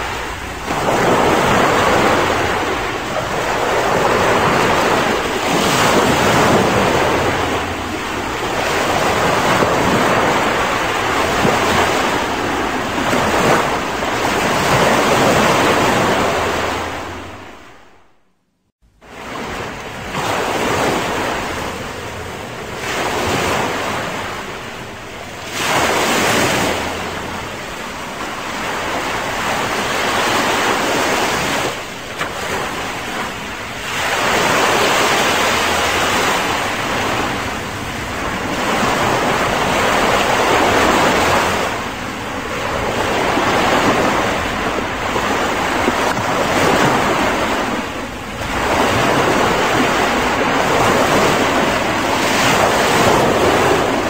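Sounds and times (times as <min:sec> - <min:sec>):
ocean surf breaking: 0:00.0 - 0:18.2, 0:19.0 - 0:54.0.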